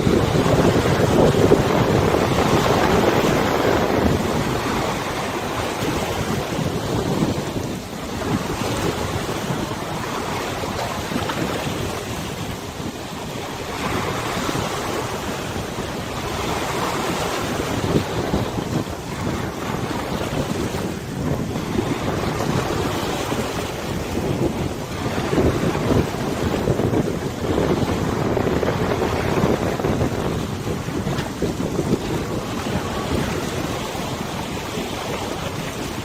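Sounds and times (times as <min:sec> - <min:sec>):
river waves washing: 0:00.0 - 0:36.0
wind buffeting microphone: 0:00.0 - 0:36.0.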